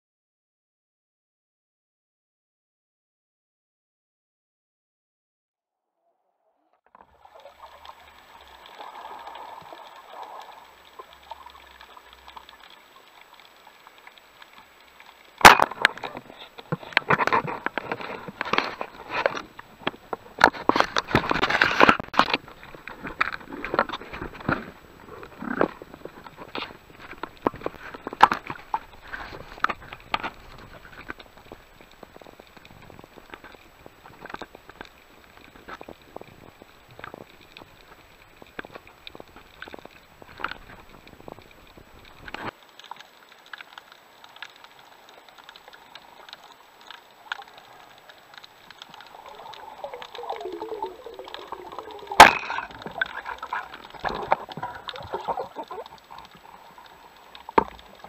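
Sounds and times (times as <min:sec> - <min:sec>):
underwater clicks and crackles: 0:06.9 - 0:58.0
bubbling gurgle: 0:07.0 - 0:42.6, 0:45.1 - 0:58.0.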